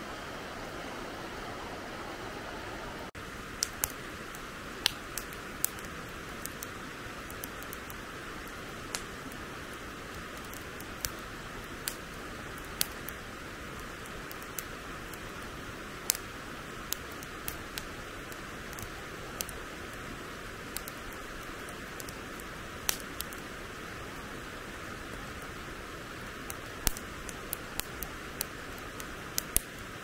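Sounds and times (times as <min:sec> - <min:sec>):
wood fire crackling: 0:03.1 - 0:30.0.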